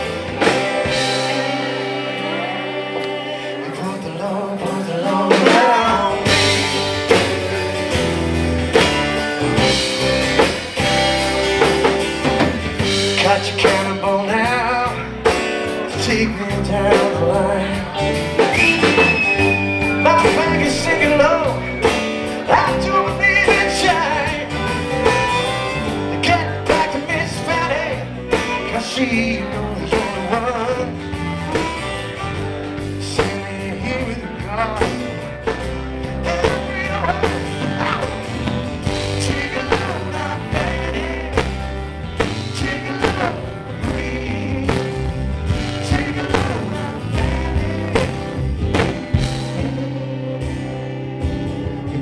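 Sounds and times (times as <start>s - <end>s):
person singing: 0.0s - 8.9s, 12.8s - 31.8s, 32.8s - 52.0s
bass guitar: 0.0s - 52.0s
drum kit beat: 0.0s - 52.0s
electric guitar: 0.0s - 52.0s.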